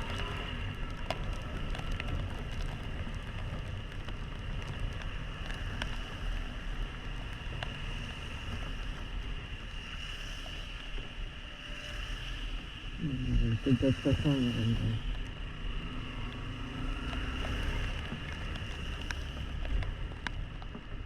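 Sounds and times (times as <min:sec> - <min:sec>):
raindrops ticking on helmet: 0:00.0 - 0:21.0.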